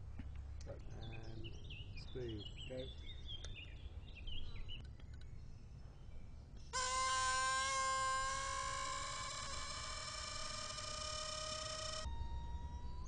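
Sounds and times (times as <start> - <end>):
faint bird chirps: 0.7 - 13.0.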